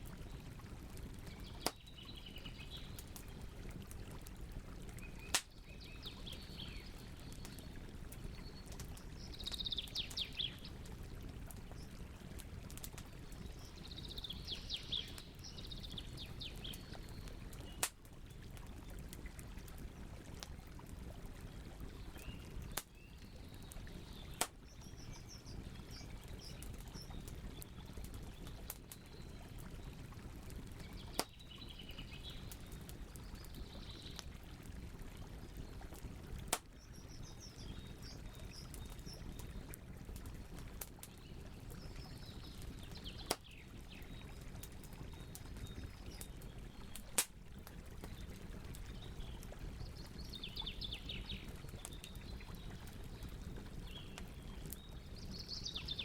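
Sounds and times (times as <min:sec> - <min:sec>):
campfire crackling and popping: 0:00.0 - 0:55.9
small birds chirping: 0:01.0 - 0:03.9, 0:04.9 - 0:12.0, 0:12.8 - 0:17.9, 0:22.0 - 0:30.0, 0:30.6 - 0:34.3, 0:36.7 - 0:47.2, 0:48.0 - 0:56.0.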